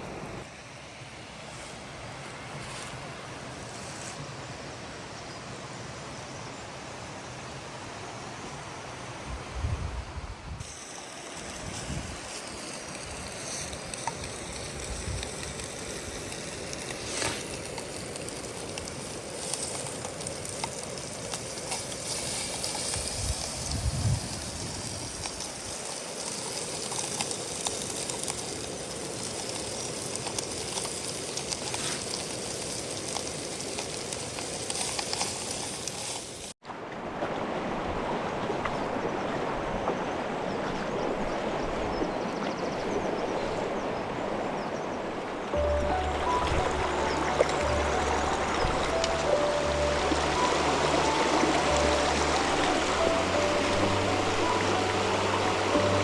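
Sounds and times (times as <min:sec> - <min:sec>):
mountain stream rushing: 0:10.6 - 0:56.0.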